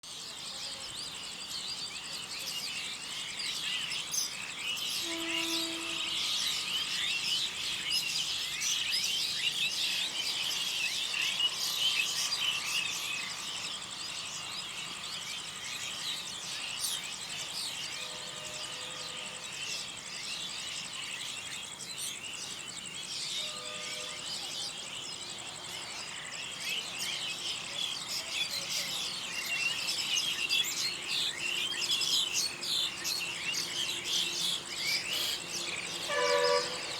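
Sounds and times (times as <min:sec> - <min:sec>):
small birds chirping: 0:00.0 - 0:23.5, 0:24.1 - 0:36.9
high-pitched insect-like whine: 0:01.6 - 0:36.9.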